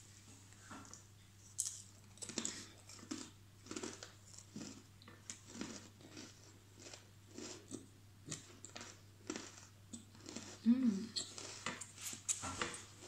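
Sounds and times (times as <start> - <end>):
person chewing crunchy snack: 1.6 - 12.4.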